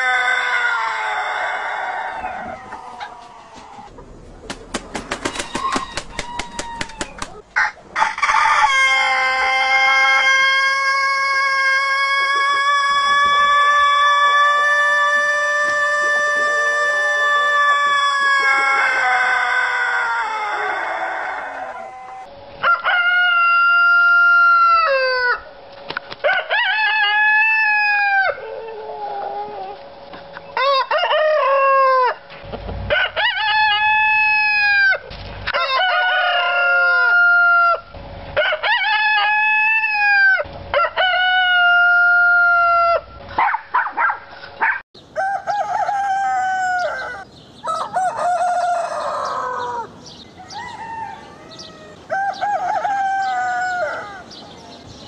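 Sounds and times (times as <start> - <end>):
rooster crowing: 0.0 - 3.9, 5.2 - 25.5, 26.2 - 29.8, 30.5 - 32.3, 32.9 - 43.5, 45.1 - 54.4.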